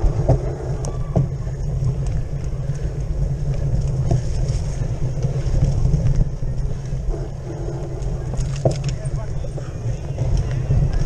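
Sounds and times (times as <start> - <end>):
bike rattling over bumps: 0.0 - 11.0
bike rumble over grass: 0.0 - 11.0
wind rush: 0.0 - 11.0.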